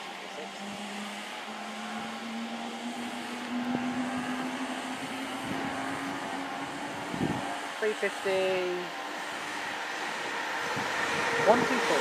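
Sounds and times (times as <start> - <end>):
electric train motor whine: 0.0 - 12.0.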